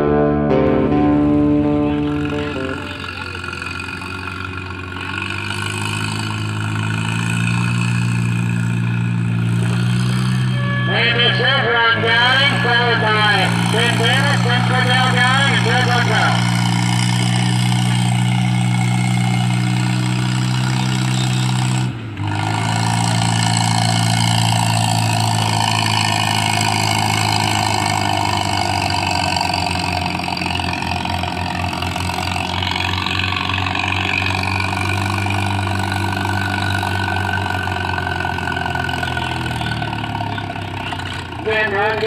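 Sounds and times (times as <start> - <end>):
tractor engine running: 0.0 - 42.0.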